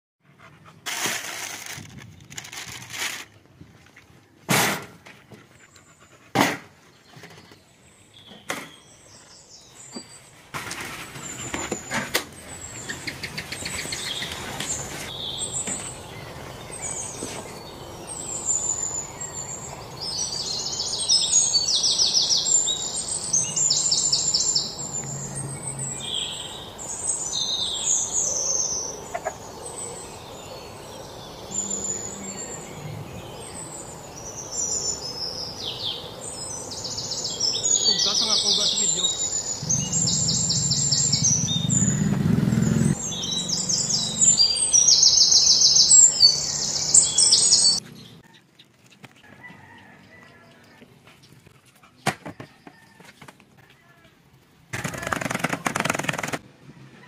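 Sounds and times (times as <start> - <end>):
songbirds chirping and singing: 5.2 - 56.2.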